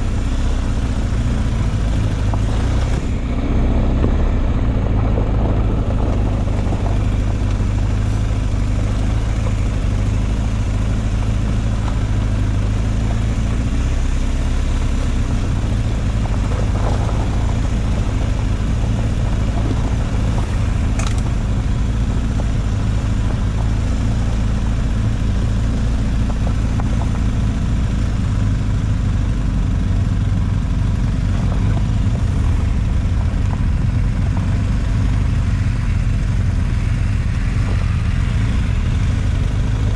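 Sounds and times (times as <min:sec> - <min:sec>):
quad bike engine low drone: 0:00.0 - 0:39.9.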